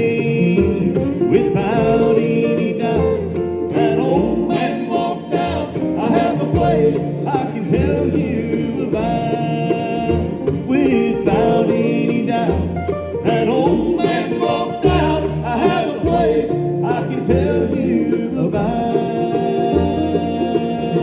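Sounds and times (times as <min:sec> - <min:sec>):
acoustic string band playing: 0:00.0 - 0:21.0.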